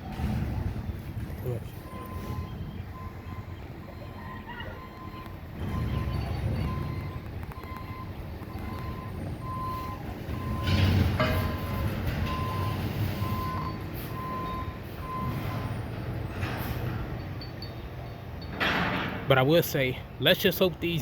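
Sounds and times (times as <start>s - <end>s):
diesel engine rumble: 0.0s - 21.0s
truck reversing alarm beeping: 0.0s - 21.0s.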